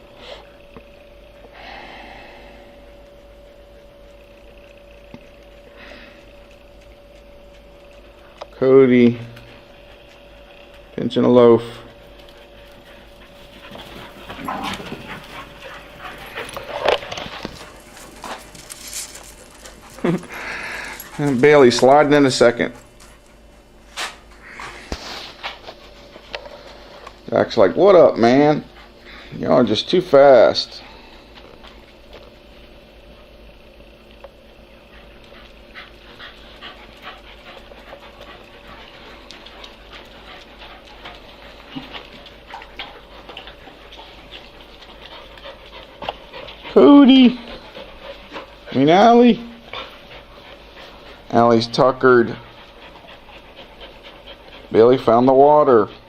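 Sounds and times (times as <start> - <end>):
dogs panting: 2.6 - 56.0.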